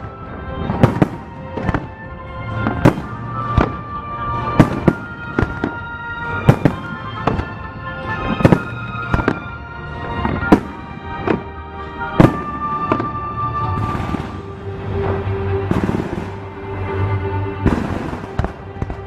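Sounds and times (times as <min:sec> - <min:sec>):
music: 0:00.0 - 0:19.0.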